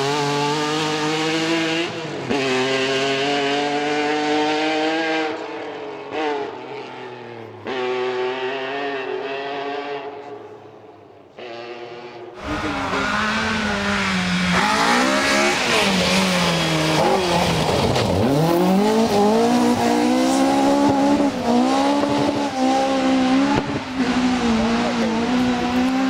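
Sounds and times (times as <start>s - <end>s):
rally car engine accelerating: 0.0s - 10.7s, 11.3s - 26.0s.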